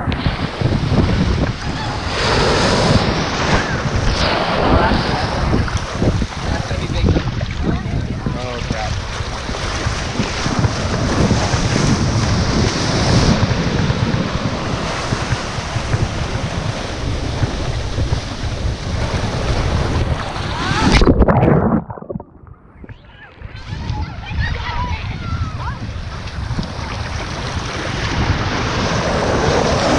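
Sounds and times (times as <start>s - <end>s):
muffled underwater rumble: 0.0s - 28.7s
surf washing and foaming: 0.0s - 29.9s
wind buffeting microphone: 0.0s - 29.9s.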